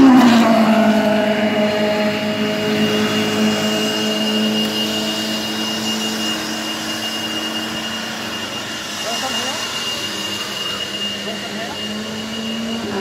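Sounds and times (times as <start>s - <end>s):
engine drone: 0.0s - 13.0s
high steady whine: 0.0s - 13.0s.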